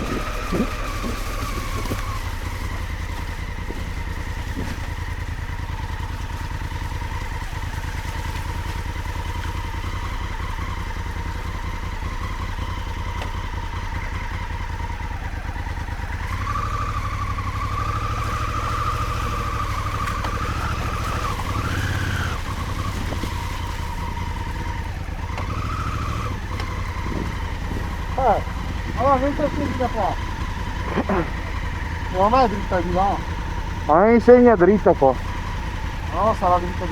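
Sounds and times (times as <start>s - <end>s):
motorcycle engine running: 0.0s - 36.9s
motorcycle throttle blips: 0.0s - 36.9s.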